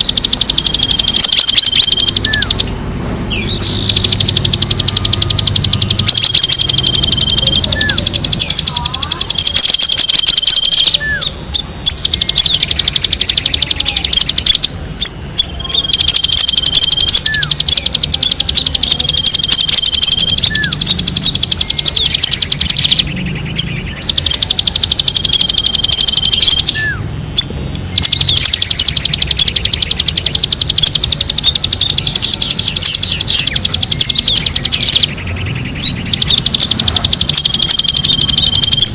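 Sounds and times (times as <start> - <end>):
recorded bird song: 0.0 - 38.9.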